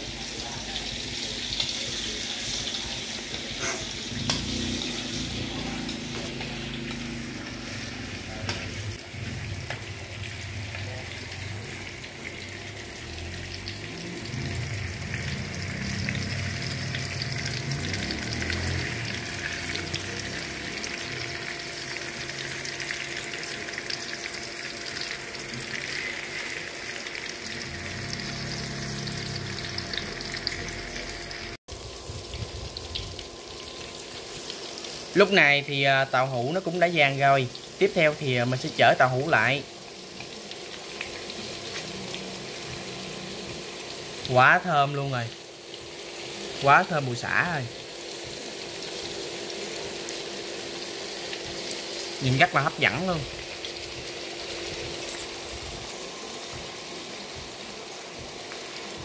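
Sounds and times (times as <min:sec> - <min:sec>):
tofu sizzling in oil: 0:00.0 - 0:59.0.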